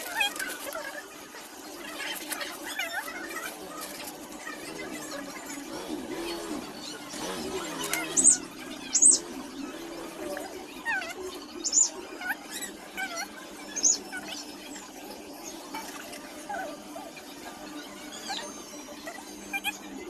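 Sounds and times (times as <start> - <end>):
animal chirps and squeaks: 0.0 - 20.0.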